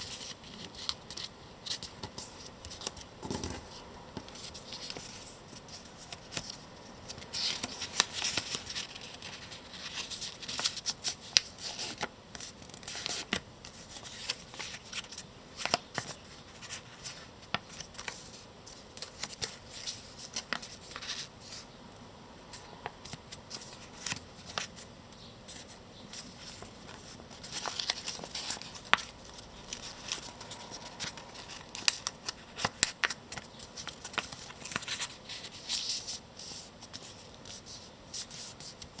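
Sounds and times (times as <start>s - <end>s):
paper rustling and crinkling: 0.0s - 21.7s, 22.5s - 24.9s, 25.5s - 39.0s.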